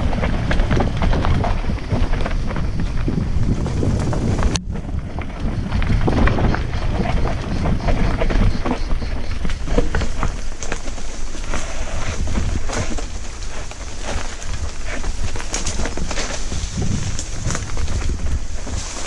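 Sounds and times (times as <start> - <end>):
bike rattling: 0.0 - 19.0
bike tyres crunching over stones: 0.0 - 19.0
wind rumble on microphone: 0.0 - 19.0.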